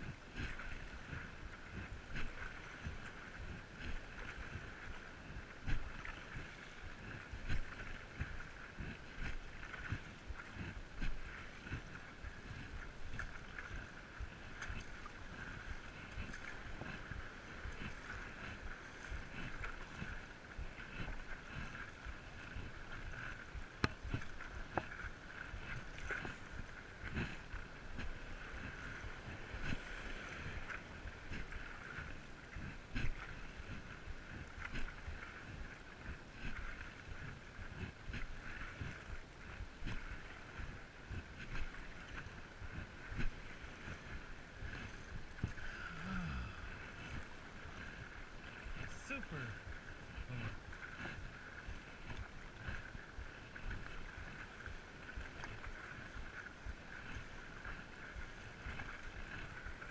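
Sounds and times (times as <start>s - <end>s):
water sloshing around board: 0.0s - 59.8s
paddle pulling through water: 0.0s - 59.9s.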